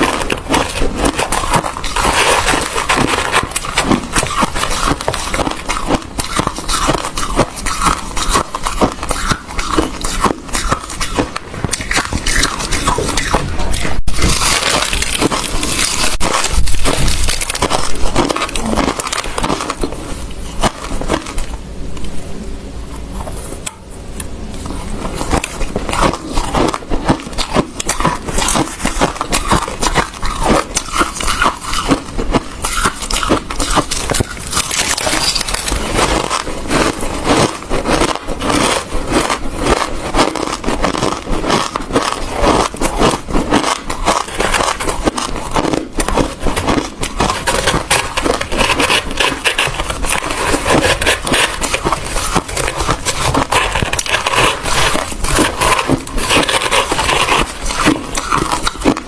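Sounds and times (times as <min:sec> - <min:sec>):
person chewing ice: 0:00.0 - 0:21.6, 0:24.6 - 0:59.0.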